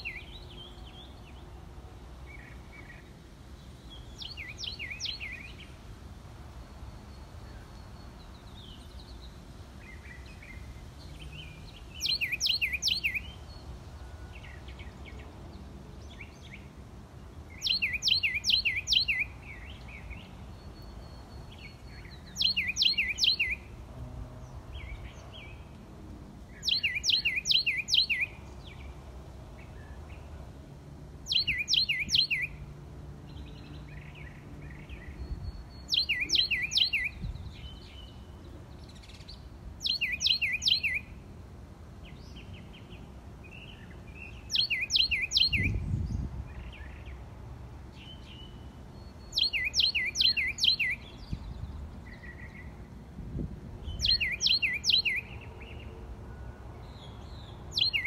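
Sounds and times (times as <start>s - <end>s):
songbird singing: 0.0s - 58.0s
softer chirps from other birds: 2.2s - 5.8s, 6.5s - 16.7s, 17.3s - 23.7s, 26.5s - 29.0s, 31.2s - 32.6s, 33.3s - 41.2s, 42.0s - 47.3s, 47.9s - 52.9s, 53.8s - 58.0s.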